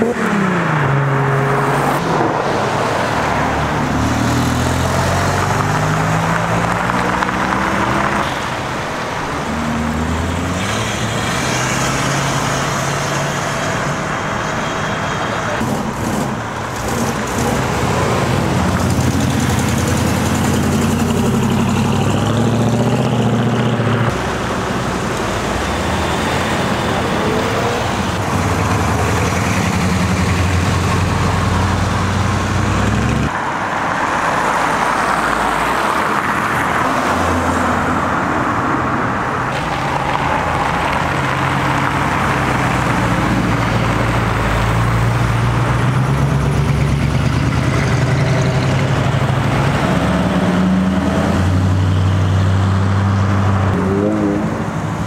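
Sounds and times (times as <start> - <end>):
car engines driving off: 0.0 - 55.0.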